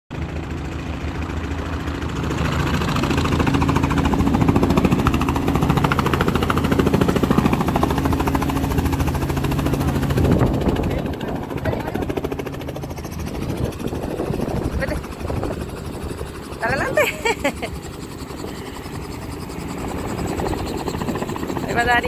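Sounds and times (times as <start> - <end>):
helicopter engine hum: 0.1 - 22.0
helicopter rotor chop: 0.1 - 22.0.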